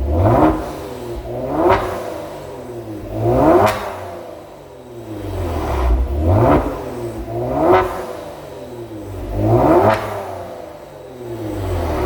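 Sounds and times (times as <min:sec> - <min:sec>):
car exhaust revving: 0:00.0 - 0:12.0.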